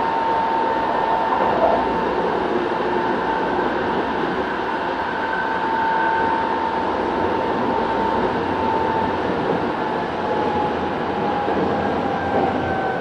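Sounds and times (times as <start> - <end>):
steady electric motor whine: 0.0 - 13.0
train wheels rumbling on rail: 0.0 - 13.0.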